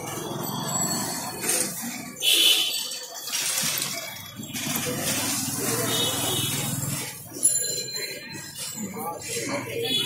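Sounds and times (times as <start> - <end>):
busy street noise: 0.0 - 10.0
rickshaw bell ringing: 0.0 - 10.0.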